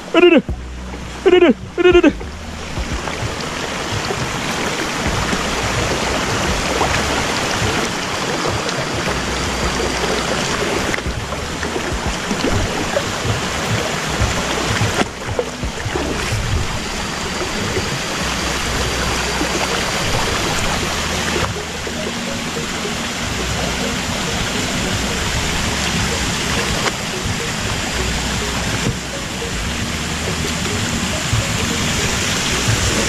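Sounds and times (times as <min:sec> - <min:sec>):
river flowing over rocks: 0:00.0 - 0:33.0.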